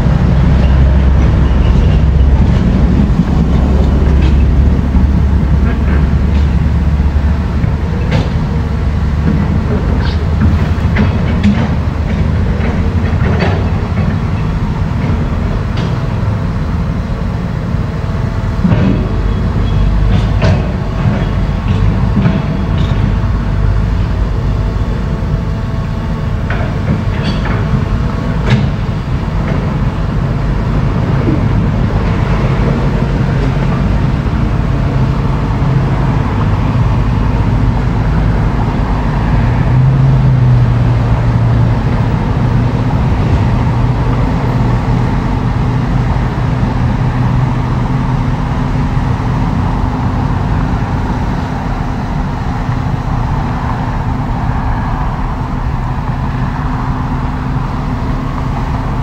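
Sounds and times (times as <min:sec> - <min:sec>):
diesel construction machinery: 0:00.0 - 0:59.0.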